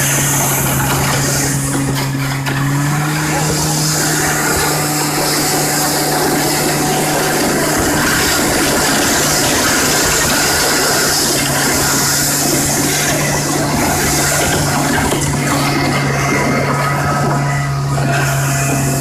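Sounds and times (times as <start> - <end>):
loud rushing noise: 0.0 - 19.0
vehicle engine running: 0.0 - 19.0.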